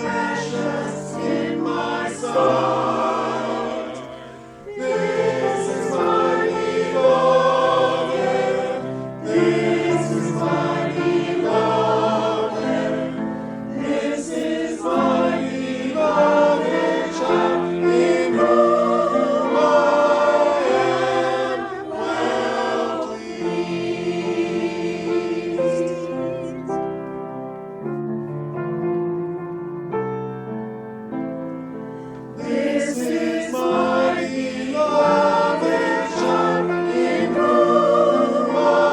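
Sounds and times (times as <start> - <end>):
choir singing a hymn: 0.0 - 27.1, 32.0 - 38.9.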